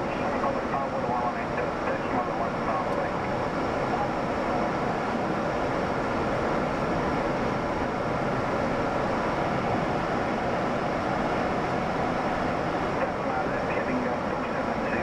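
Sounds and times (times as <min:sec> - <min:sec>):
airflow rush: 0:00.0 - 0:15.0.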